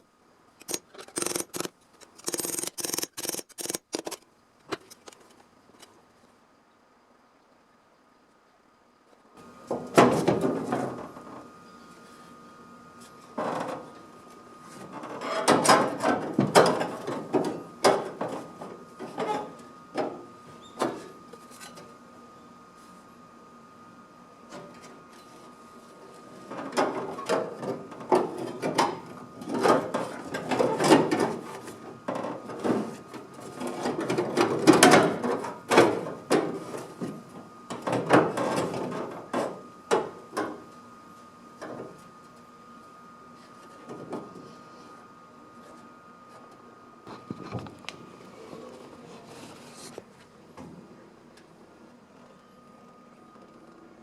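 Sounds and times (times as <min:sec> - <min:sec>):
faint steady whine: 0:00.0 - 0:54.0.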